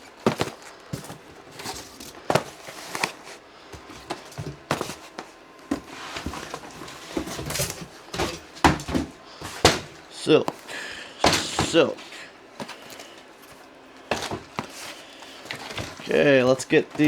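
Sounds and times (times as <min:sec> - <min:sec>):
knocks and clicks of handling boxes: 0:00.0 - 0:17.0.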